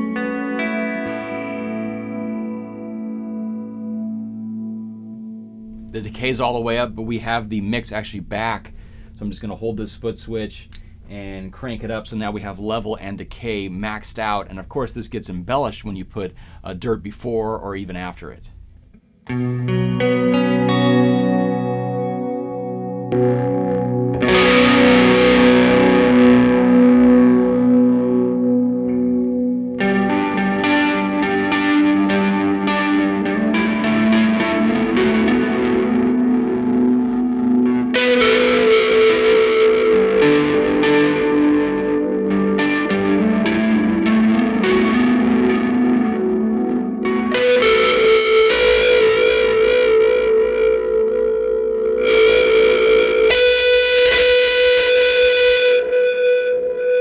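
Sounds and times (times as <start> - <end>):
distorted electric guitar chords: 0.0 - 9.5, 18.5 - 57.0.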